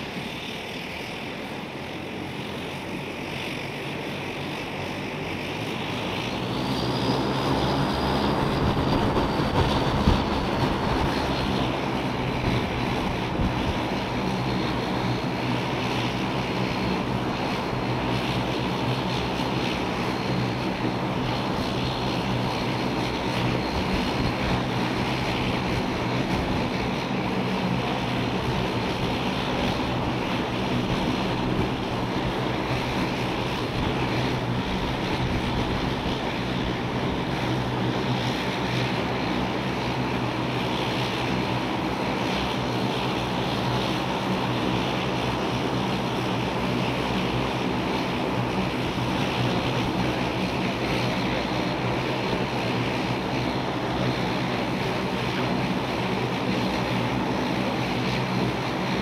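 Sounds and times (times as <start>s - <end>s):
turboprop engines idling: 0.0s - 59.0s
wind noise on microphone: 6.4s - 59.0s.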